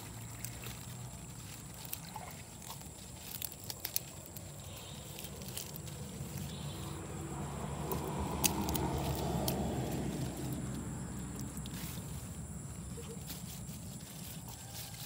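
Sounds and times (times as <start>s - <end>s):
faint outdoor rumble: 0.0s - 15.0s
greens snapping and rustling: 0.0s - 15.0s.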